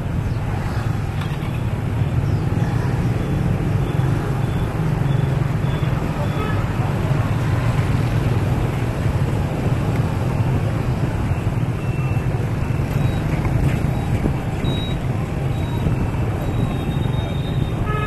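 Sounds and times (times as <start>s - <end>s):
other motorbikes: 0.0s - 18.0s
road noise: 0.0s - 18.0s.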